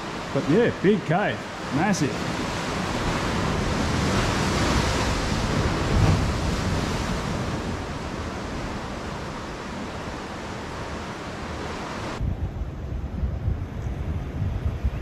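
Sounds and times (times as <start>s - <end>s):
ocean surf washing in: 0.0s - 12.3s.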